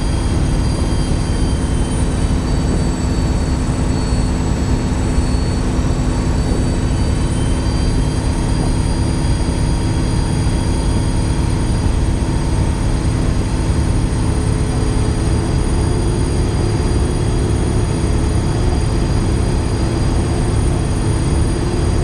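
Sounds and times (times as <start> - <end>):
bus engine drone: 0.0 - 22.0
squealing turbocharger whistle: 0.0 - 22.0.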